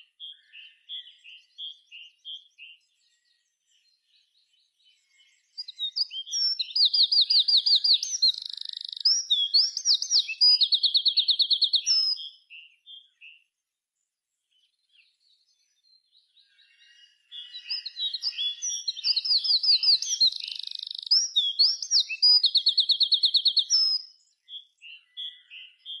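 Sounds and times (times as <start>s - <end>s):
small songbird singing: 0.0s - 26.0s.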